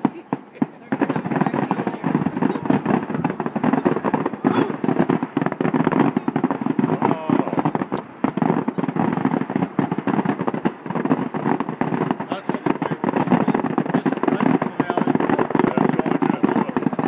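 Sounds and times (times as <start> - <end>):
fireworks bangs and crackling pops: 0.0 - 17.0.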